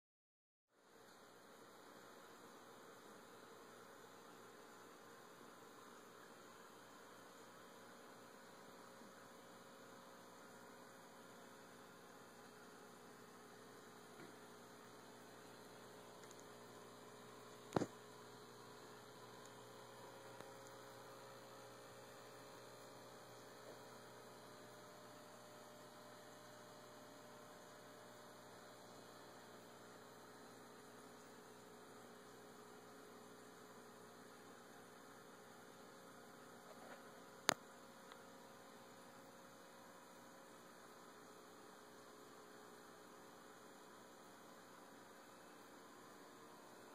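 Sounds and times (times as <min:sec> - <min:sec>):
faint electrical hum: 0:00.8 - 0:46.9.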